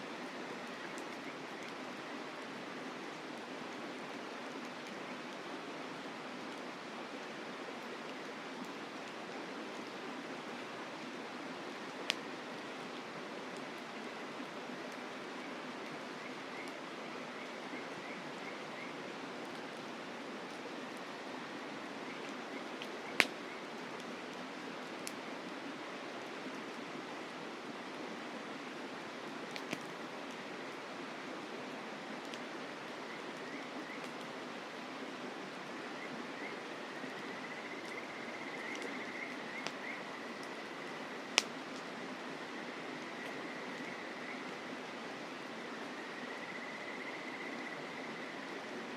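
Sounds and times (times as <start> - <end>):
campfire wood crackling: 0.1 - 46.6.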